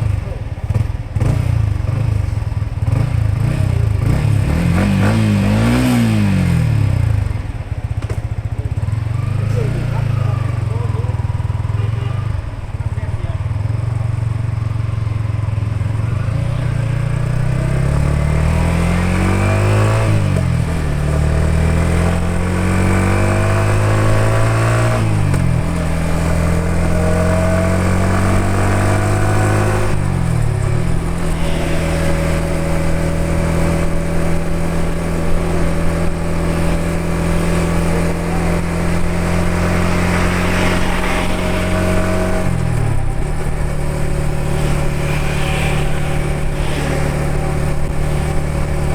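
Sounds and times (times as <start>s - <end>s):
motorcycle engine shifting gears: 0.0s - 48.9s.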